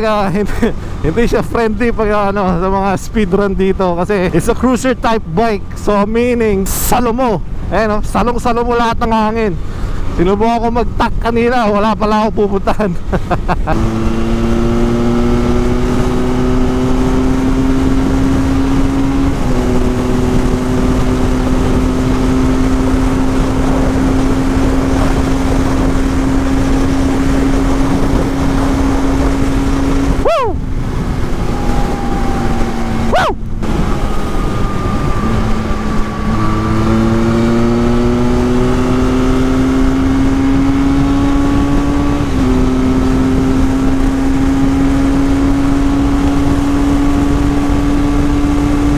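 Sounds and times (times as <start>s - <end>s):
heavy wind rush: 0.0s - 48.9s
motorcycle engine pulling at speed: 8.7s - 48.9s.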